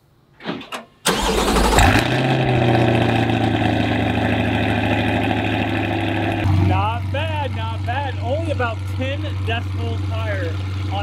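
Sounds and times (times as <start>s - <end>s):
car engine starting and idling: 1.0s - 11.0s.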